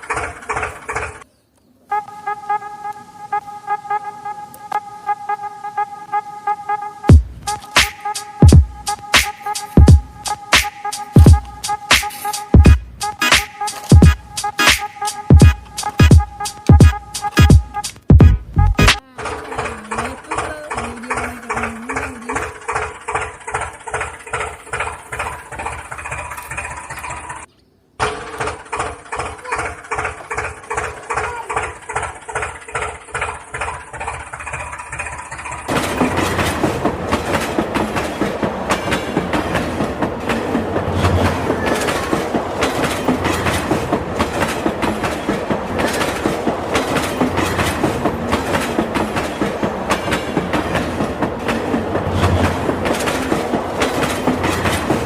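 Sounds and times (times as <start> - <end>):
train clickety-clack: 0.0 - 1.3, 7.1 - 55.0.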